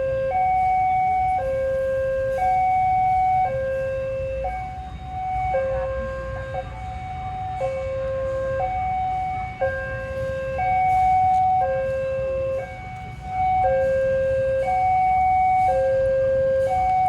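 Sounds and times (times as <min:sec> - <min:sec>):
two-tone warning siren: 0:00.0 - 0:17.0.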